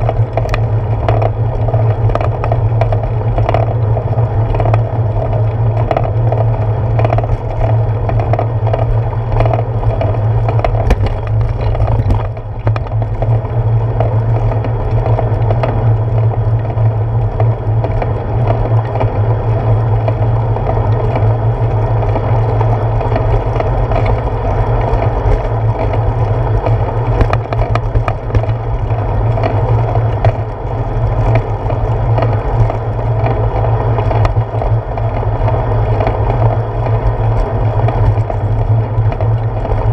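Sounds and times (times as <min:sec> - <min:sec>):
clicks and knocks from bumps: 0:00.0 - 0:19.3, 0:22.0 - 0:39.9
bicycle tyre rumble: 0:00.0 - 0:39.9.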